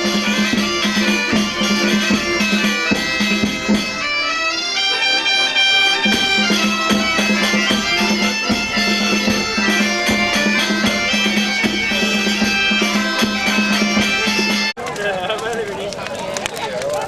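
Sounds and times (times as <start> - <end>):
bagpipes playing over drone: 0.0 - 14.7
drum beats: 0.0 - 14.8.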